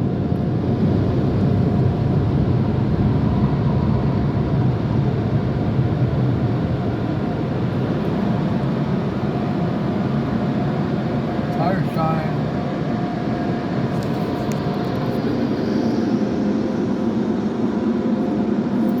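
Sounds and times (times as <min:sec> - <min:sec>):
muffled car wash rumble: 0:00.0 - 0:19.0.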